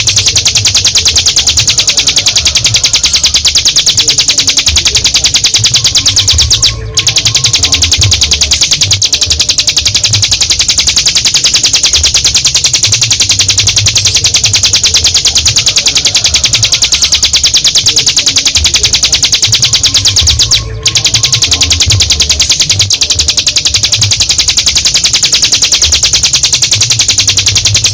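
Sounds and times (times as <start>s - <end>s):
bird rapid high trill: 0.0s - 27.9s.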